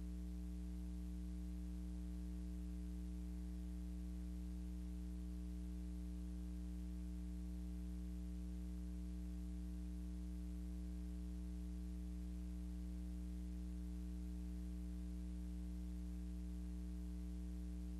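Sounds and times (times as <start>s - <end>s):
low electrical hum with hiss: 0.0s - 17.9s.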